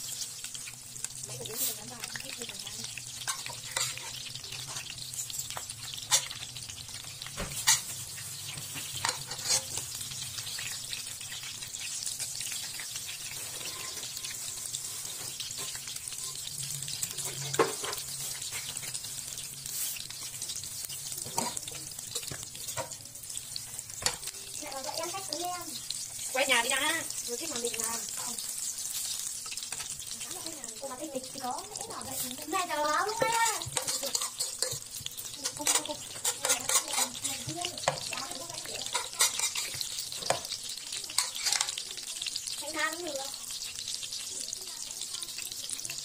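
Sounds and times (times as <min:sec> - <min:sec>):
food frying in hot oil: 0:00.0 - 0:46.0.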